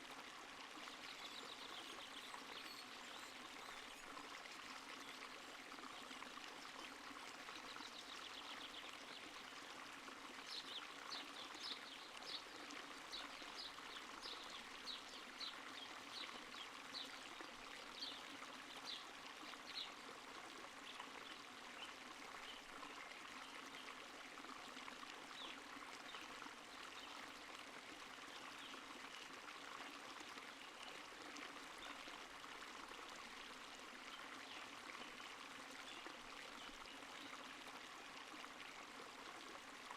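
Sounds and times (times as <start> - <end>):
running water stream: 0.0 - 39.9.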